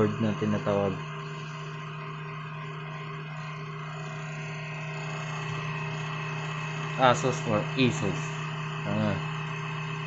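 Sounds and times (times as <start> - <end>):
computer fans humming: 0.0 - 10.0.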